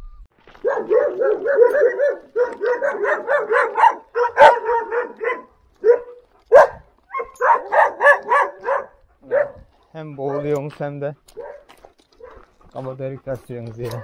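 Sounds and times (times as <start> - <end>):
dogs barking: 0.6 - 10.6, 11.2 - 12.5.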